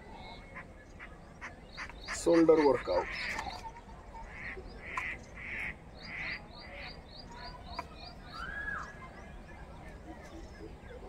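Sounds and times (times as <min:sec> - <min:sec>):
harsh bird calls: 0:00.0 - 0:11.0
high bird chirps: 0:00.2 - 0:09.5.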